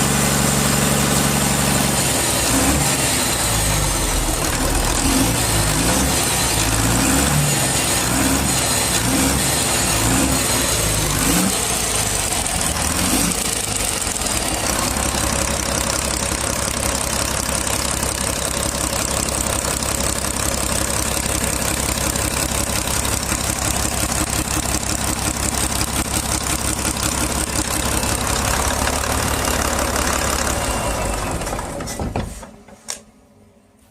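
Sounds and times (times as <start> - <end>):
marine diesel engine running: 0.0 - 31.8.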